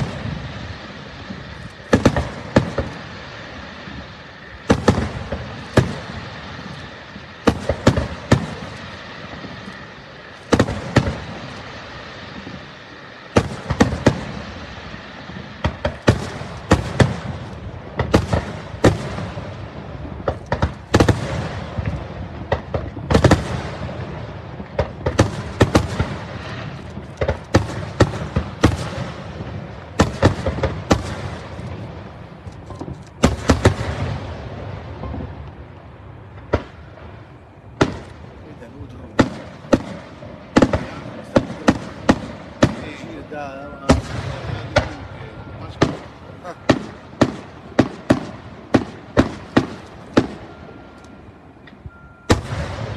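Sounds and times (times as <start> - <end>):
firework shells bursting: 0.0 - 52.9
steady background noise: 0.0 - 52.9.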